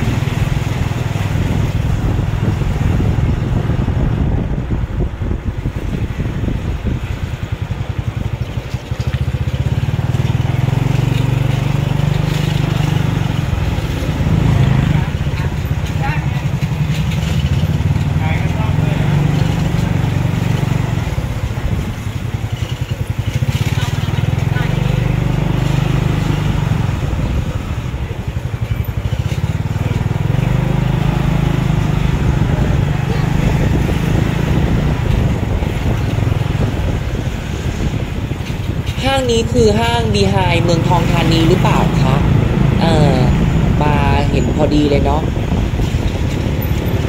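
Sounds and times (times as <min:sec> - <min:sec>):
small motorcycle engine: 0:06.8 - 0:47.0.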